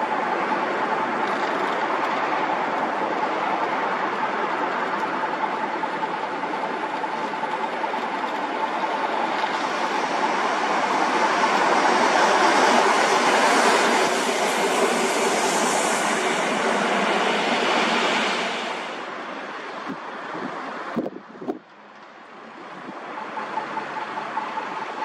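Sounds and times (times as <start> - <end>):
train rushing past on rails: 0.0 - 25.0.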